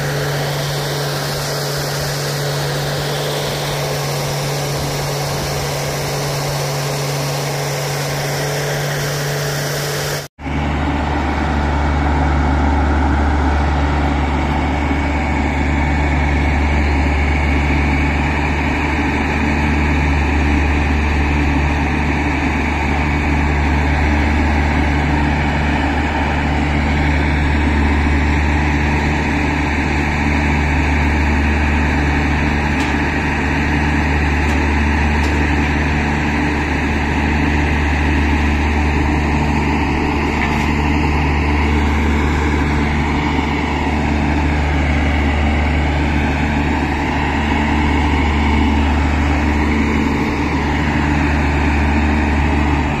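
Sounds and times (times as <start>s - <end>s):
heavy vehicle engine running: 0.0s - 53.0s.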